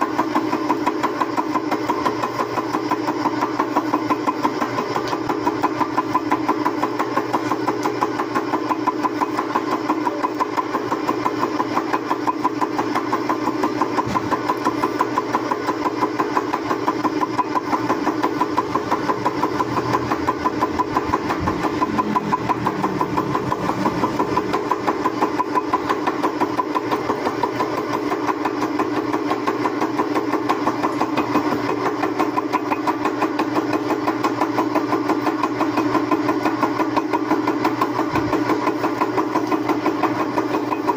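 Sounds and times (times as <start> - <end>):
metal lathe running: 0.0 - 40.9.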